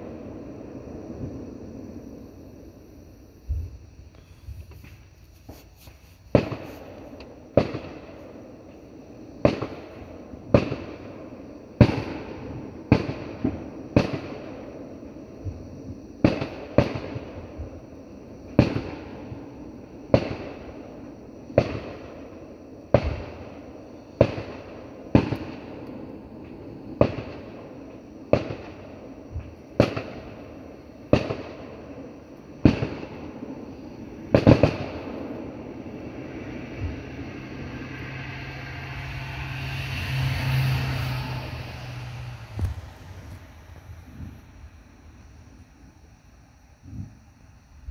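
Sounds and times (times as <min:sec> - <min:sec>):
fireworks bangs: 0:00.0 - 0:45.6.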